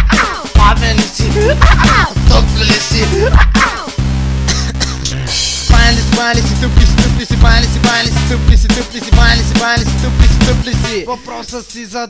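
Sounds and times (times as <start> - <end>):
hip hop music: 0.0 - 12.0.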